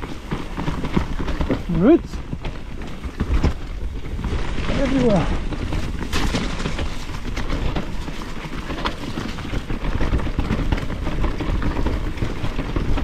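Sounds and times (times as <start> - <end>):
bike knocking and rattling: 0.0 - 13.0
tyres rumbling on trail: 0.0 - 13.0.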